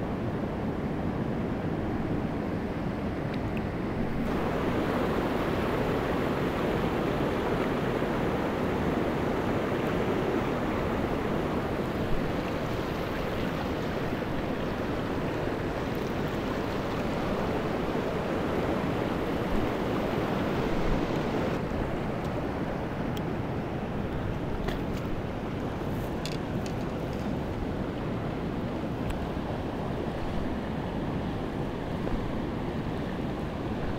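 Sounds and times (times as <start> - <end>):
stream rushing over rocks: 4.1 - 33.9.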